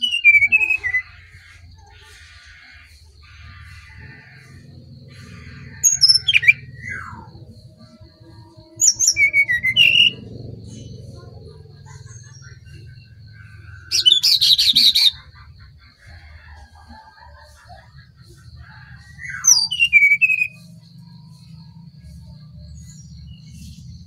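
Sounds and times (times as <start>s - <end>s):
bird whistling song: 0.0s - 3.2s, 3.8s - 15.4s, 18.5s - 24.0s.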